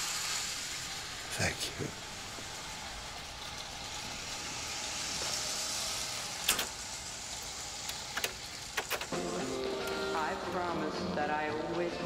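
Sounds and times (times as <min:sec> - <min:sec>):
vinyl hiss and crackle: 0:00.0 - 0:12.0.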